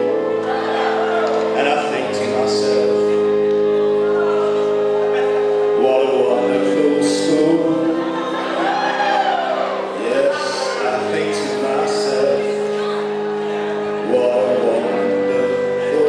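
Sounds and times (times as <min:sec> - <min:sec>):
person singing: 0:00.0 - 0:16.0.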